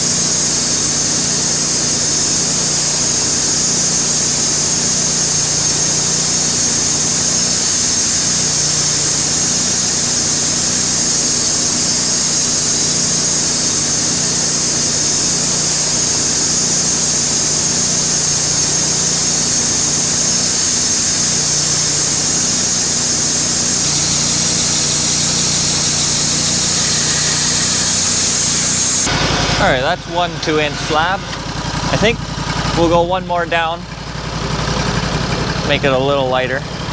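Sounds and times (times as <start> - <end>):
saw blade hissing through log: 0.0 - 32.8
sawmill engine running: 0.0 - 36.9.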